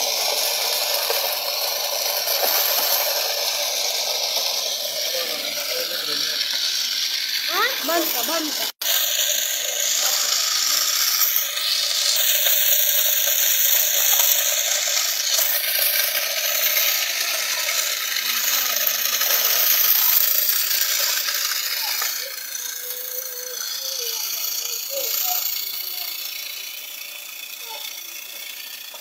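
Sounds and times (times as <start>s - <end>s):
threshing machine rattling: 0.0s - 29.0s.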